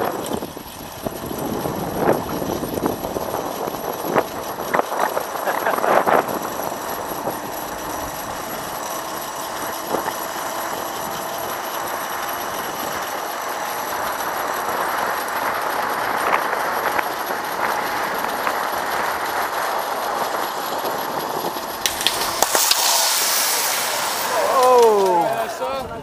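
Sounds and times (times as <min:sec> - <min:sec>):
pulley wheels running on cable: 0:00.0 - 0:26.0.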